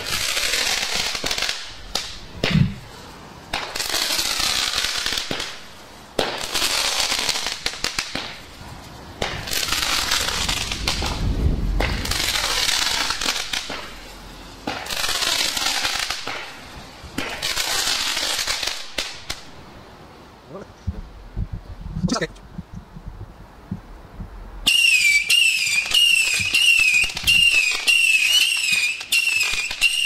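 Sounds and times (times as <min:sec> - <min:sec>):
firework pops and crackles: 0:00.0 - 0:19.7, 0:24.6 - 0:30.0
firework rockets hissing upward: 0:00.0 - 0:19.7, 0:24.6 - 0:30.0.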